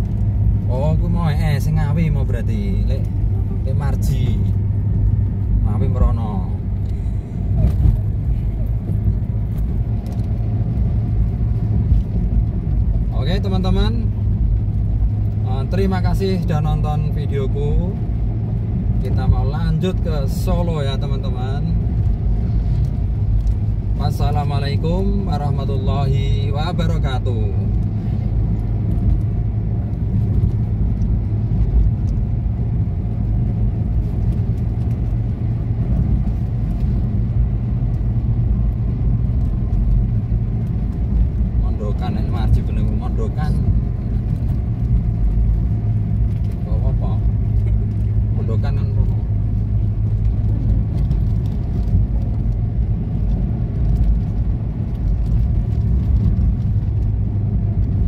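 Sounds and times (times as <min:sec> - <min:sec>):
car cabin engine and tyre rumble: 0:00.0 - 0:58.0.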